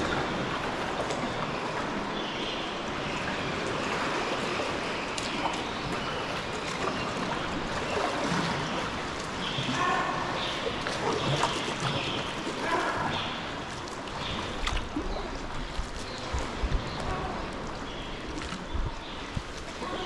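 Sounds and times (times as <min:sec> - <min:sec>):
water sloshing around kayak: 0:00.0 - 0:20.0.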